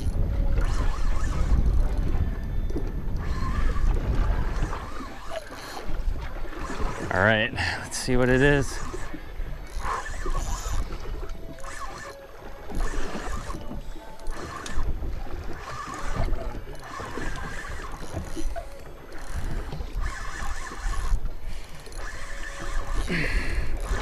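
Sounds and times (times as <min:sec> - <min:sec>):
fishing reel being cranked: 0:00.0 - 0:24.0
wind and water rumble: 0:00.0 - 0:24.0.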